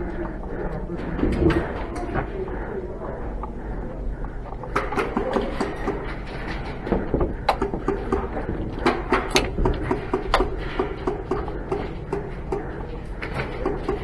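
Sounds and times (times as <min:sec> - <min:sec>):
clattering rattle: 0:00.0 - 0:14.0.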